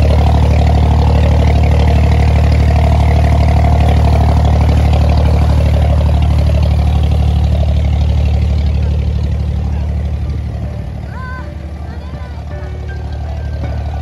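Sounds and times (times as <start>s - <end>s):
boat diesel engine pulsing: 0.0s - 14.0s.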